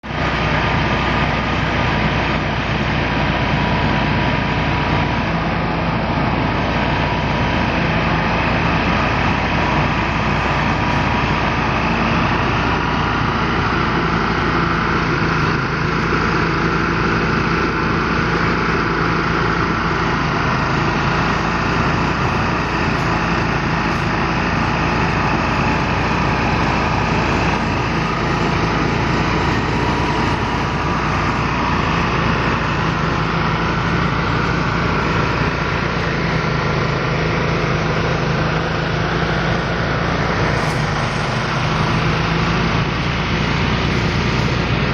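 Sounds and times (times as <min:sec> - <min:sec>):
threshing machine engine drone: 0:00.0 - 0:44.9.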